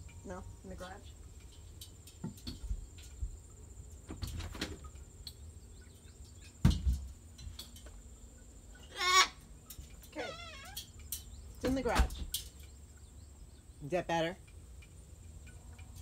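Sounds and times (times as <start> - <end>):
insect trill: 0.0 - 13.8.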